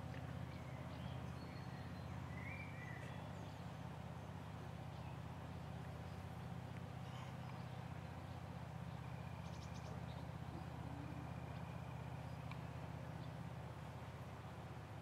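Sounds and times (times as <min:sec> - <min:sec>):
faint low outdoor hum: 0:00.0 - 0:15.0.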